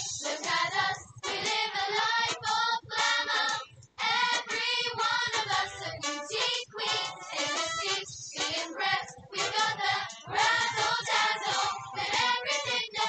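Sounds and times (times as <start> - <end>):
show song with sung vocals: 0.0 - 13.0.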